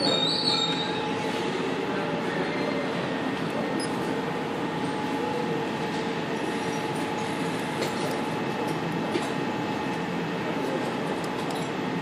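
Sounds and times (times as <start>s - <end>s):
industrial machinery running: 0.0s - 12.0s.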